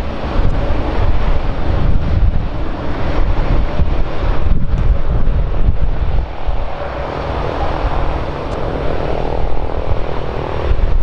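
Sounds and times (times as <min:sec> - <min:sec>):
aircraft engine running: 0:00.0 - 0:11.0
faint engine whine: 0:00.0 - 0:11.0
wind buffeting microphone: 0:00.0 - 0:11.0.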